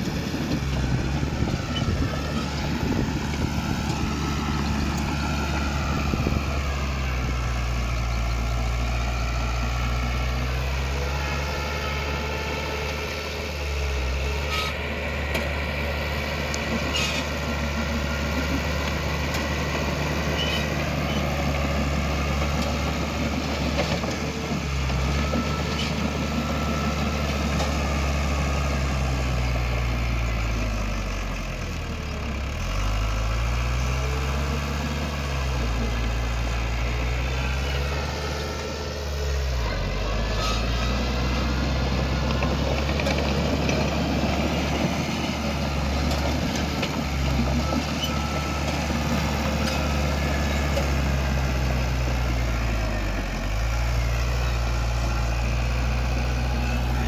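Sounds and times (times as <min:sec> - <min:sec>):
diesel engine of heavy machine: 0:00.0 - 0:57.0.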